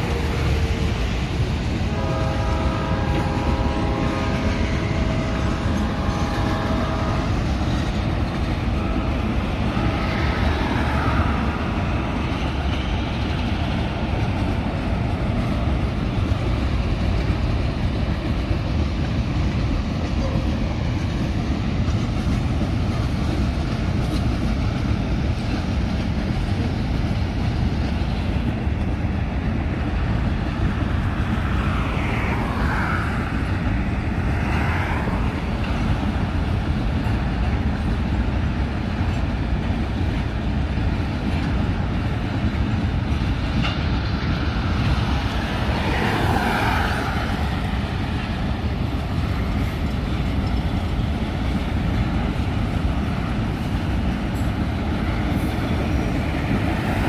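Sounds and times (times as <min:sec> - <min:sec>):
freight train wagons rumbling: 0:00.0 - 0:57.0
road noise from vehicle: 0:00.0 - 0:57.0.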